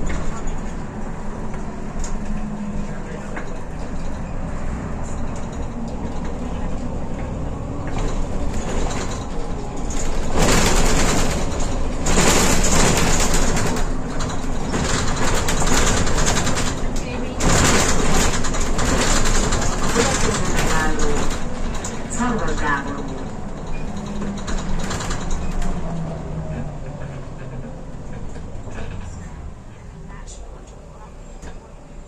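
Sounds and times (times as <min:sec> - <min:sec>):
bus engine and road noise: 0:00.0 - 0:32.0.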